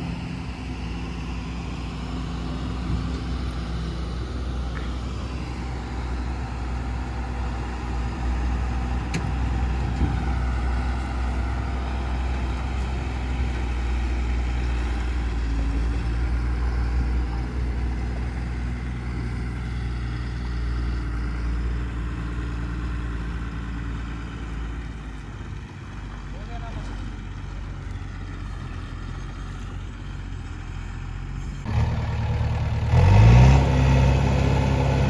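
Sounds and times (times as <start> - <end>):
diesel truck engine droning: 0.0 - 35.0.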